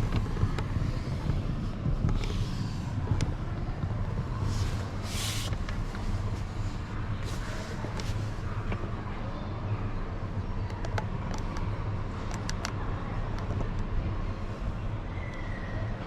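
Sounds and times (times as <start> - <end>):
car engine and road noise: 0.0 - 15.1.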